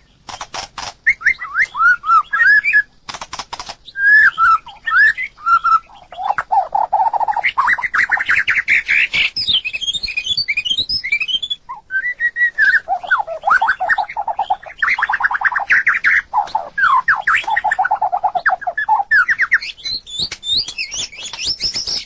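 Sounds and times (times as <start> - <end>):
bird singing whistled trills: 1.0 - 2.9, 3.8 - 22.0.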